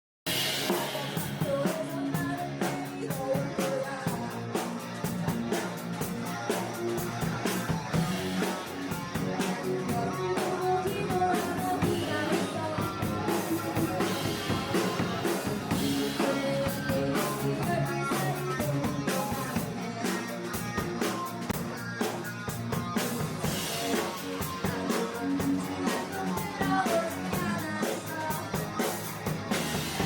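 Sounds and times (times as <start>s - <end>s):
person singing: 0.3s - 30.0s
rock band playing live: 0.3s - 30.0s.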